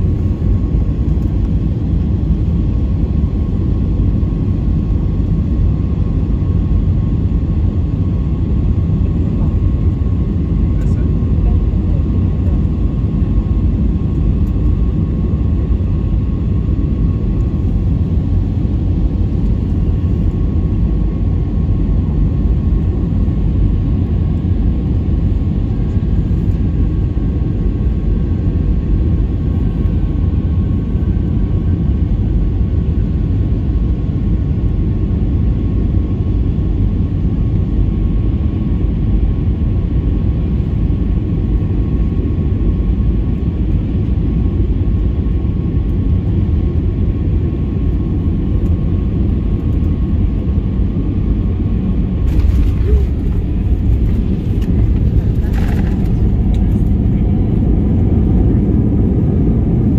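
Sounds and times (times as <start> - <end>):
faint steady whine: 0.0 - 59.9
jet engine and airflow rumble: 0.0 - 59.9.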